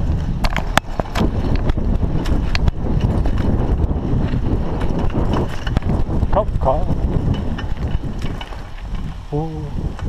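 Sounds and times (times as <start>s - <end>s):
bike knocks and clicks: 0.0s - 10.0s
tyres rumbling on dirt: 0.0s - 10.0s
wind noise on microphone: 0.0s - 10.0s.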